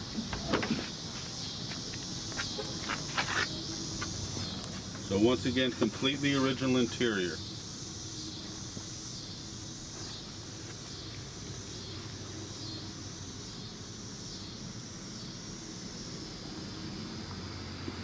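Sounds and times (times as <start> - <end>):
insects chirring: 0.0 - 18.0
low rumble of road traffic: 0.0 - 18.0.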